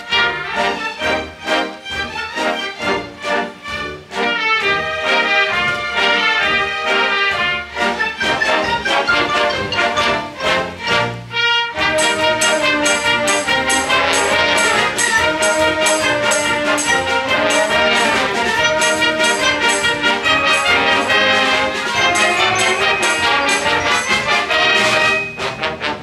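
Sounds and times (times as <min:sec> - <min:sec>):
brass section: 0:00.0 - 0:26.0
orchestra playing film music: 0:00.0 - 0:26.0.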